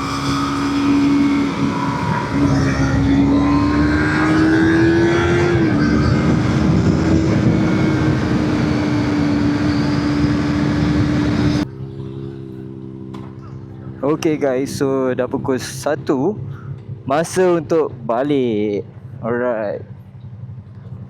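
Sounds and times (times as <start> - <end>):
motorcycle engine at high revs: 0.0 - 19.2.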